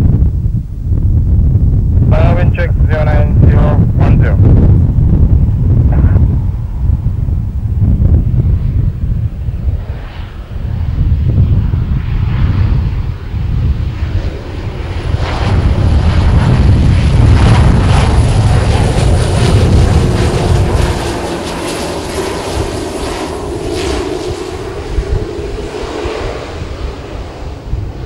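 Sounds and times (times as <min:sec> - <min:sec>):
turboprop aircraft rumble: 0:00.0 - 0:28.0.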